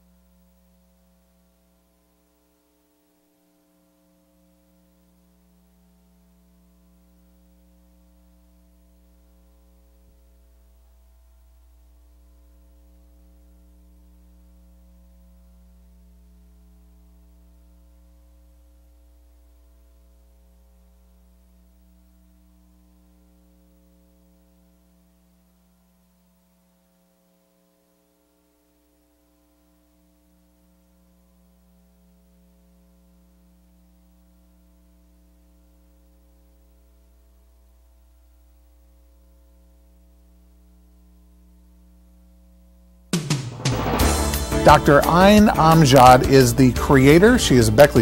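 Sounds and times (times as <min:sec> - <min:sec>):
faint electrical hum: 0:00.0 - 0:48.0.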